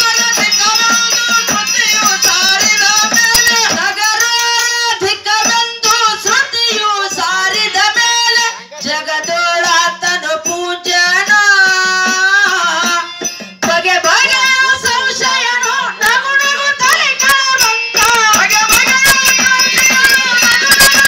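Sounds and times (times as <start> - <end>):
hand drum: 0.0 - 21.0
sharp percussion strokes: 0.0 - 21.0
woman singing into a microphone: 0.0 - 21.0.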